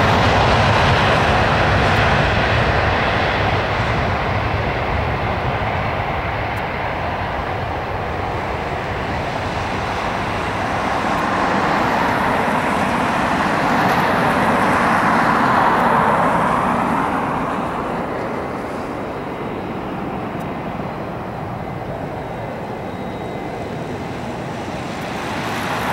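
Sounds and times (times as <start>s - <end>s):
jet airliner taking off: 0.0s - 25.9s.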